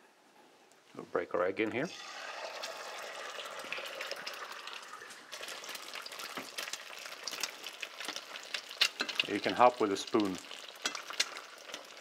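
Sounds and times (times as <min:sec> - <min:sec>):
egg sizzling in hot oil: 0:01.9 - 0:12.0
oil crackling and spitting: 0:02.0 - 0:12.0.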